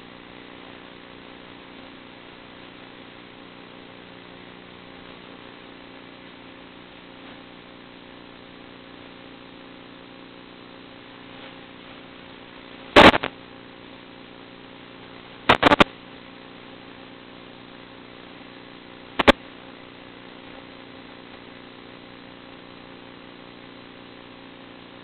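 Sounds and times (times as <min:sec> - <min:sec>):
loud static crackles: 0:00.0 - 0:25.0
radio hiss and hum: 0:00.0 - 0:25.0.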